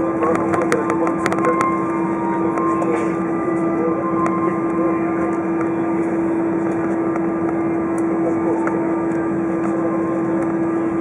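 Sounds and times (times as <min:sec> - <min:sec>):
aircraft cabin rumble while taxiing: 0:00.0 - 0:11.0.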